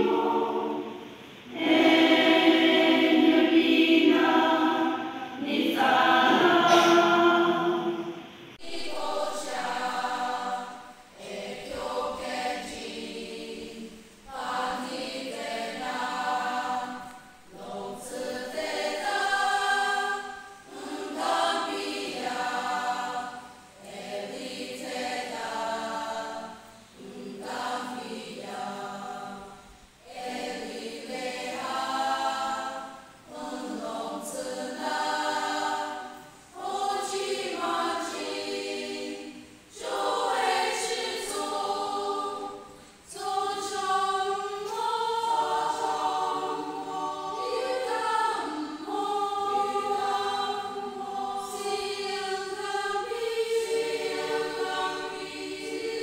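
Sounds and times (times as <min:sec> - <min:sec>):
women's choir singing: 0:00.0 - 0:56.0.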